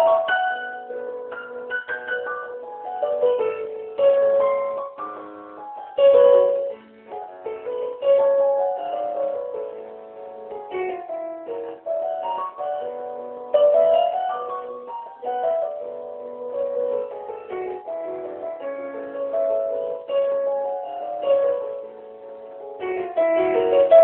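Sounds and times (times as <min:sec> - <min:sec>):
electronic keyboard tango: 0:00.0 - 0:24.0.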